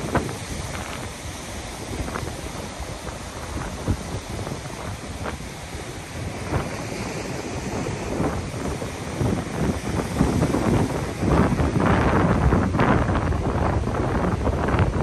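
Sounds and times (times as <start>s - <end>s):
surf breaking on rocks: 0.0s - 15.0s
wind buffeting microphone: 0.0s - 15.0s.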